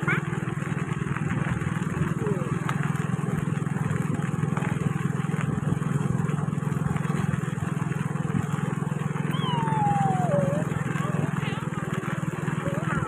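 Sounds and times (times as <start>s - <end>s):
vehicle engine running: 0.0s - 13.0s
wind and road noise: 0.0s - 13.0s.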